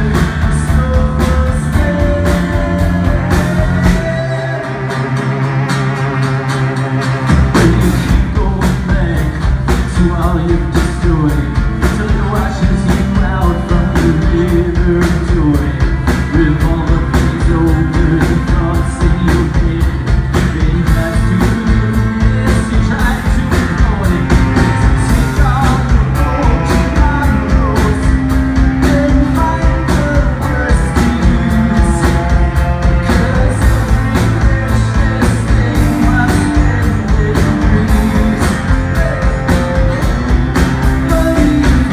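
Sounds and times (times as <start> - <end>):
drum kit steady beat: 0.0 - 41.9
electric bass: 0.0 - 41.9
electric guitars: 0.0 - 41.9.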